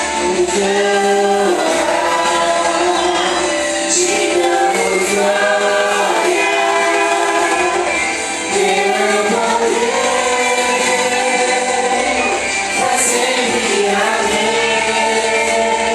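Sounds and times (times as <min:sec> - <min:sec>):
gospel group singing in chorus: 0:00.0 - 0:15.9.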